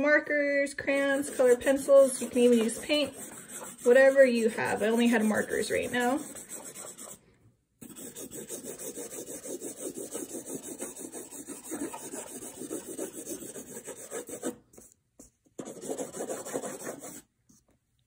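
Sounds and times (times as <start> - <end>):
marker scribbling on paper: 0.8 - 7.2, 7.8 - 17.3.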